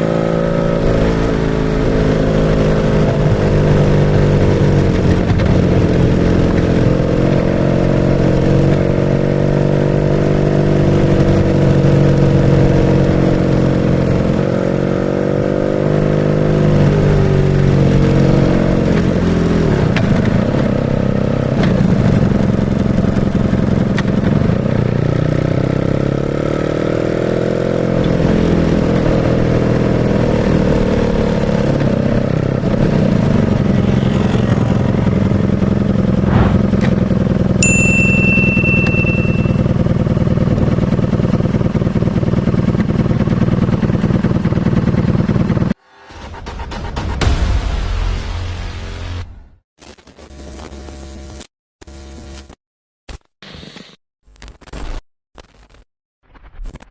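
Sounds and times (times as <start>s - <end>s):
motorcycle engine accelerating: 0.0s - 45.8s.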